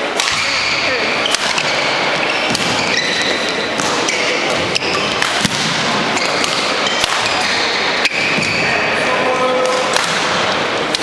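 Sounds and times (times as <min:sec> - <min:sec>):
court shoes squeaking: 0:00.0 - 0:11.0
racket striking shuttlecock: 0:00.1 - 0:08.5, 0:09.6 - 0:11.0.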